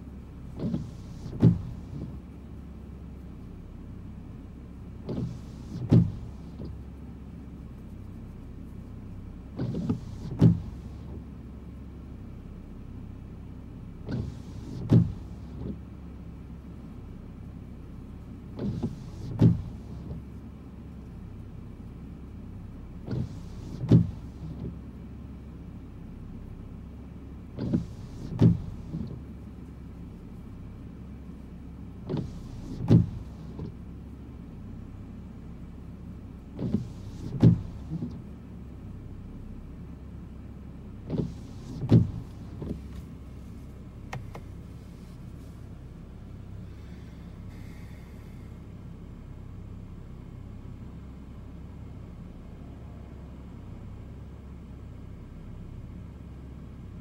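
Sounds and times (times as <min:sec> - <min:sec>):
windshield wipers swishing: 0:00.0 - 0:55.2
low hum of car: 0:00.0 - 0:57.0.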